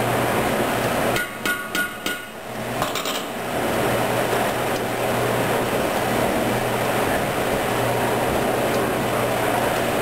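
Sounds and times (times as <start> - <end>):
dishwasher running drone: 0.0 - 10.0.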